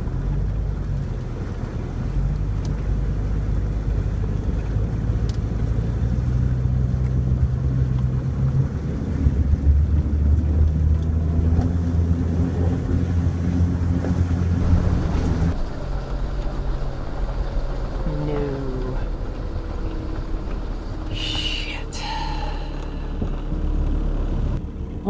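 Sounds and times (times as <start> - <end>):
car engine running under load: 0.0 - 25.0.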